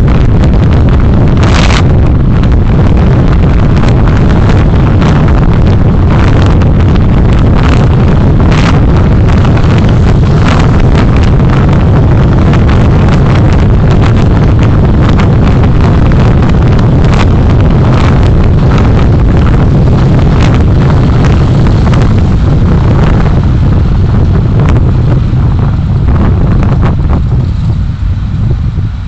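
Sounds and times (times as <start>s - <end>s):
road and engine rumble: 0.0s - 29.0s
wind buffeting microphone: 0.0s - 29.0s.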